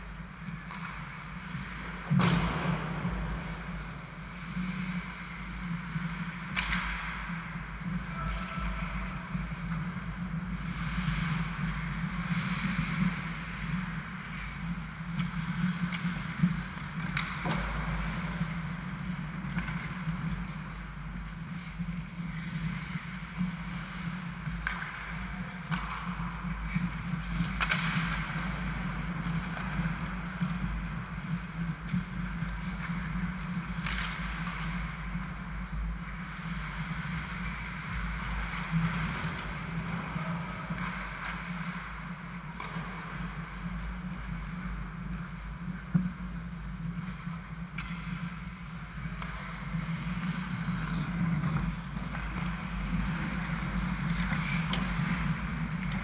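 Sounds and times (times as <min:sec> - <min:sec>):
hockey sticks and puck clacking: 0:00.0 - 0:56.0
skates scraping on ice: 0:00.0 - 0:56.0
steady low hum: 0:00.0 - 0:56.0.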